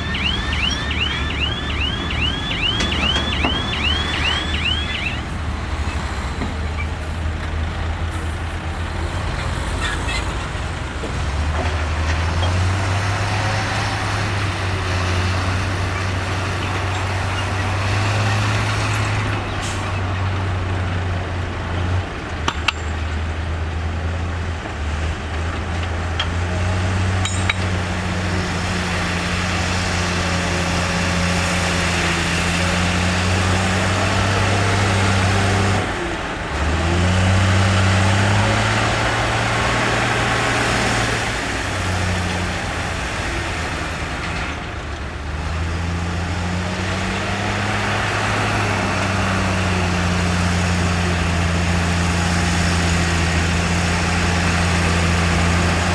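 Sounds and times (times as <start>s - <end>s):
heavy diesel engine revving: 0.0s - 55.9s.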